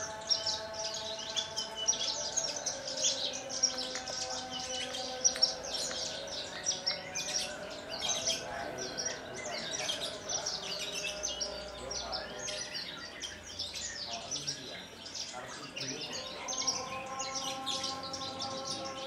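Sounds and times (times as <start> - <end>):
lark singing high chirps: 0.0 - 19.0.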